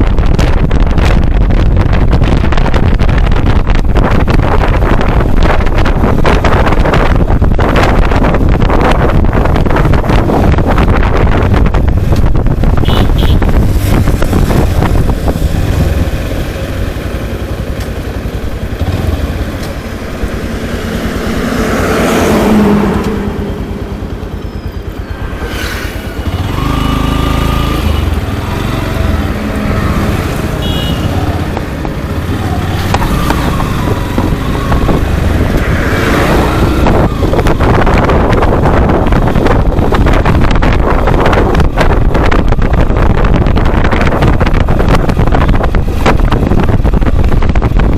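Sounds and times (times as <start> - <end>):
motorcycle engine running: 0.0 - 47.9
wind buffeting the microphone: 0.0 - 47.9.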